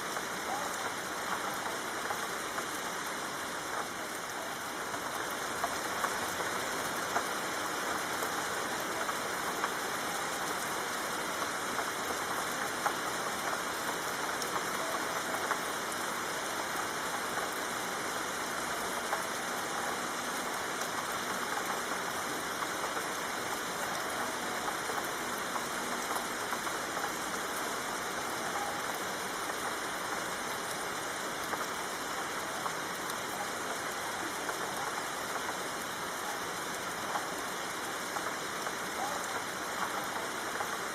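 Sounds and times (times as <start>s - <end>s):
raindrops ticking: 0.0s - 40.9s
soft rain hiss: 0.0s - 40.9s.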